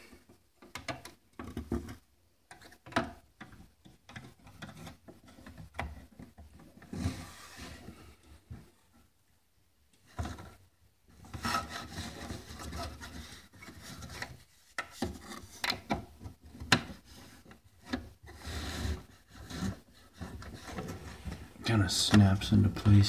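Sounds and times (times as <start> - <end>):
plastic rubbing and scraping: 0.6 - 8.1, 10.1 - 23.0.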